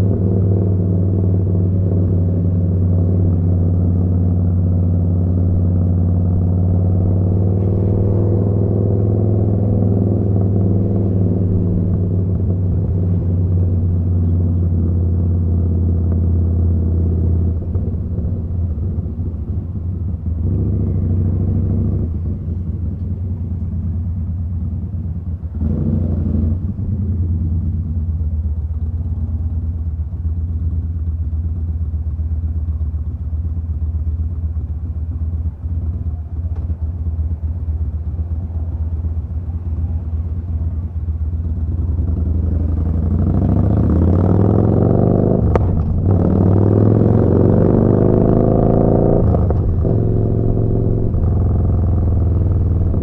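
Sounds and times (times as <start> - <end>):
motorcycle engine deep exhaust: 0.0 - 53.0.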